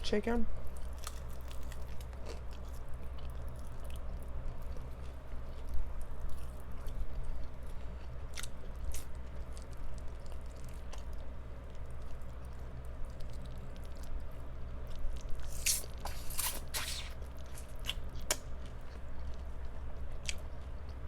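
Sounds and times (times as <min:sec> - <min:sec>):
room fan hum: 0:00.0 - 0:21.0
chewing crunchy food: 0:00.6 - 0:21.0.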